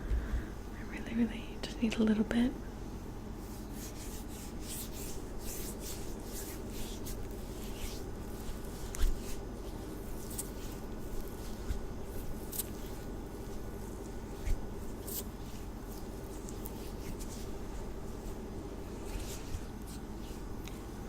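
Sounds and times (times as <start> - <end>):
hands swishing: 3.6 - 20.9.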